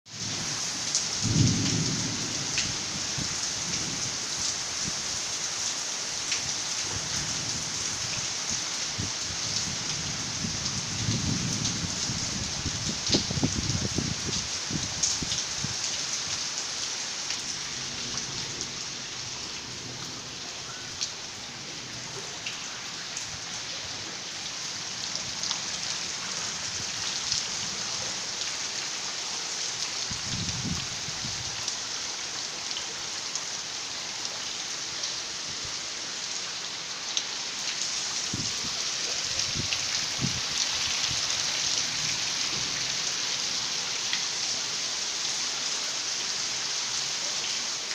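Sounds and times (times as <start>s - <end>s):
steady rain hiss: 0.1s - 47.9s.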